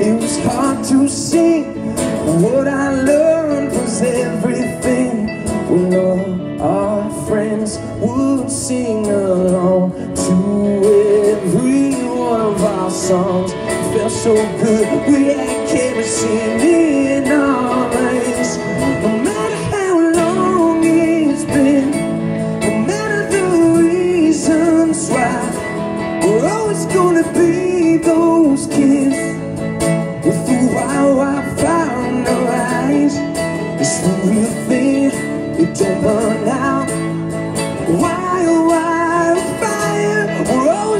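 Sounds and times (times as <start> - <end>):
acoustic guitar strumming: 0.0 - 40.9
man singing into microphone: 0.0 - 40.9.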